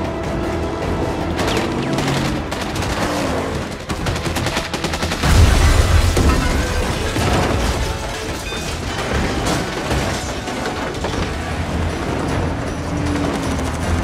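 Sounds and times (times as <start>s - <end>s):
rapid automatic gunfire: 0.0s - 14.0s.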